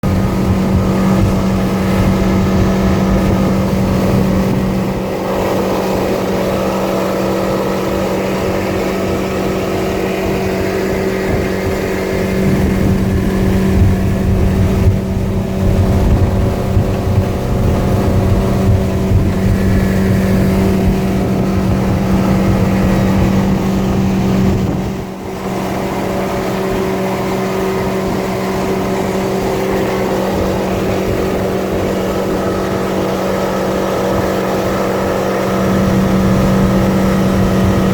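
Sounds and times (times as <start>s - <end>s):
motorboat engine droning: 0.0s - 37.9s
rushing water: 0.0s - 37.9s
wind: 0.0s - 37.9s.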